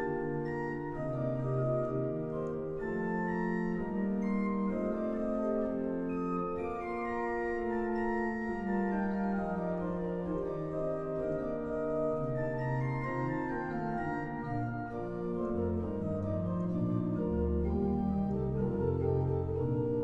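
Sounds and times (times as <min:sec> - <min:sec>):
pipe organ chords: 0:00.0 - 0:20.0.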